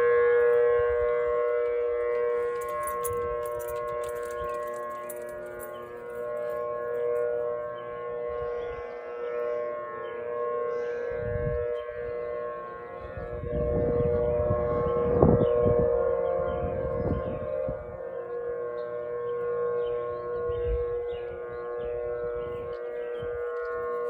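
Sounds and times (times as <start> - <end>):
warning sirens wailing: 0.0 - 24.0.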